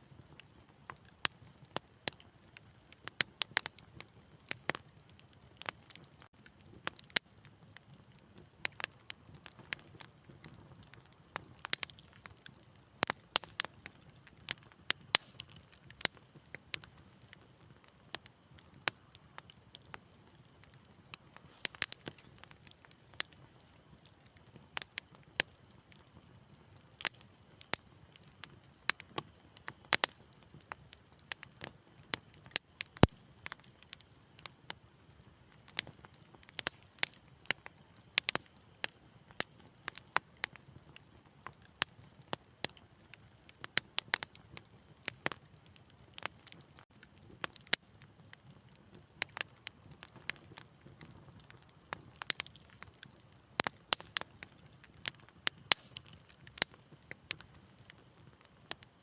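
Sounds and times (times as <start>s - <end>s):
low rumble of flame: 0.0s - 59.0s
wood fire crackling and popping: 0.1s - 59.0s.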